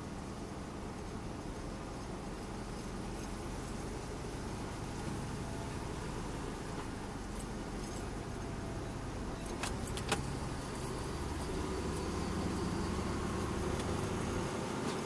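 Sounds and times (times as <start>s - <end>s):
truck diesel engine rumble: 0.0s - 15.0s
truck cab rattling: 0.9s - 15.0s.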